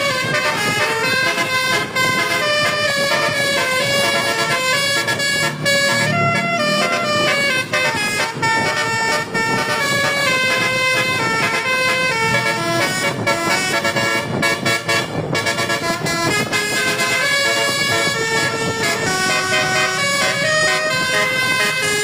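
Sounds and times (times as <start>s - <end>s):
bus multi-tone horn playing a tune: 0.0s - 22.0s.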